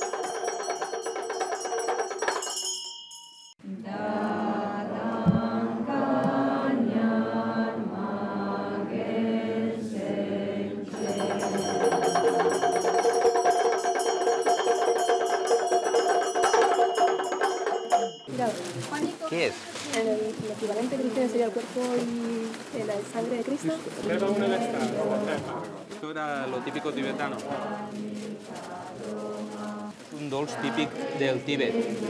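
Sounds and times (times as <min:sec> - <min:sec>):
voices chanting prayers: 0:03.6 - 0:18.7, 0:19.4 - 0:32.0.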